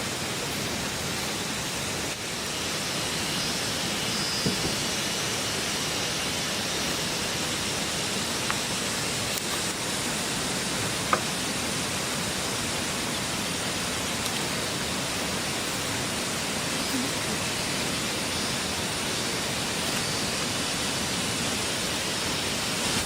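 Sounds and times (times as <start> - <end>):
steady rushing noise: 0.0 - 23.0.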